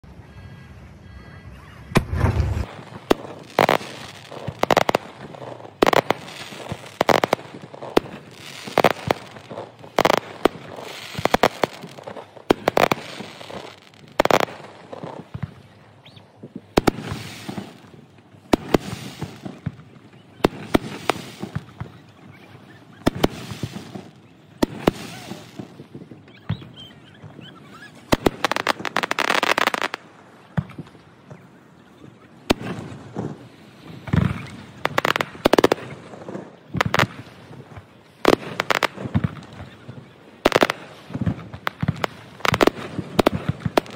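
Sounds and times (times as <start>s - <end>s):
firework crackling: 1.9s - 31.4s, 32.4s - 43.9s.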